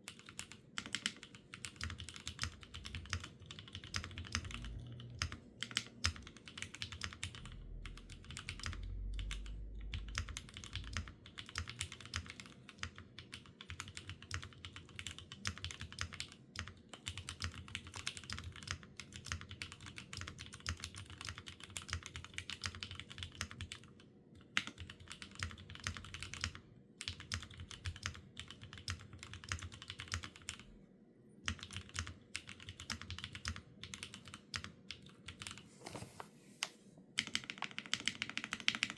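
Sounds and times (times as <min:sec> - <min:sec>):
mechanical keyboard typing: 0:00.0 - 0:30.6, 0:31.4 - 0:35.7, 0:37.2 - 0:38.9.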